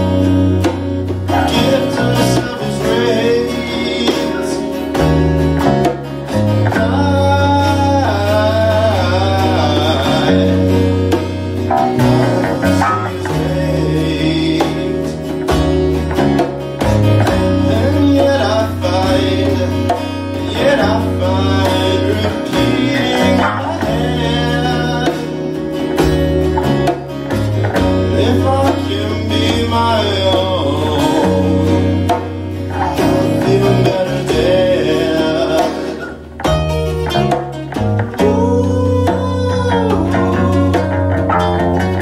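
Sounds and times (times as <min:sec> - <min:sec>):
man singing: 0:00.0 - 0:26.2, 0:27.8 - 0:37.3, 0:38.0 - 0:42.0
hand drum: 0:00.0 - 0:42.0
strummed acoustic guitars: 0:00.0 - 0:42.0.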